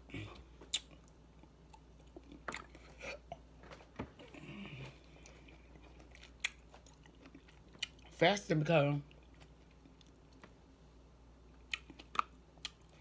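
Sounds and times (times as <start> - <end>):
chewing fruit: 0.2 - 8.2, 9.0 - 10.6, 11.5 - 13.0.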